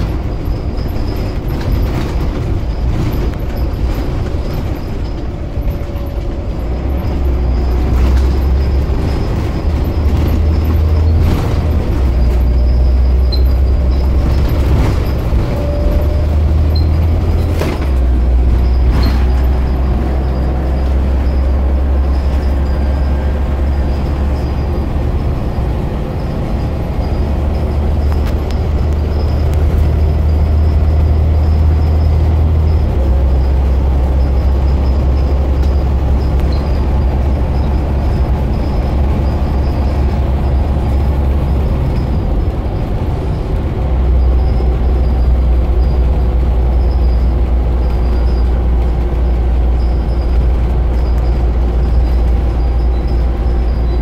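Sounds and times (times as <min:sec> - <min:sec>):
bus diesel engine drone: 0:00.0 - 0:54.0
road noise: 0:00.0 - 0:54.0.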